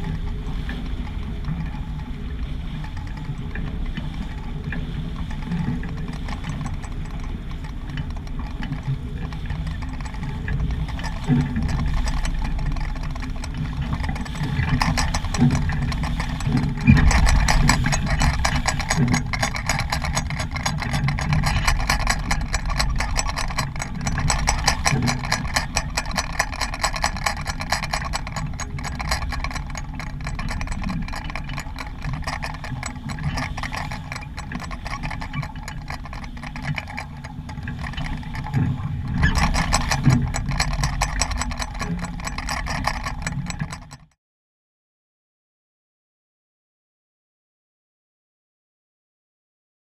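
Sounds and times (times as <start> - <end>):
water rushing along a hull: 0.0 - 44.1.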